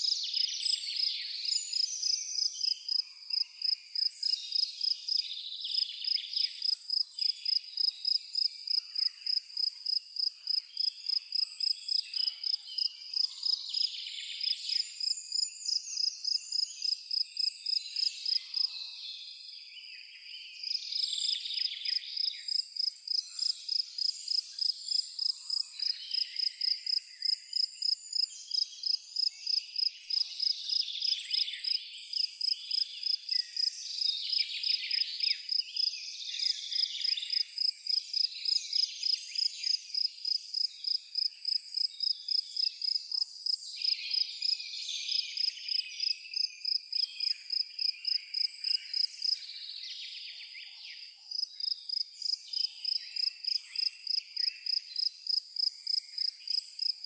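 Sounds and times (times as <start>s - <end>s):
cricket chirping: 0.0s - 18.7s, 20.6s - 50.2s, 51.0s - 57.0s
songbirds singing: 0.0s - 57.0s.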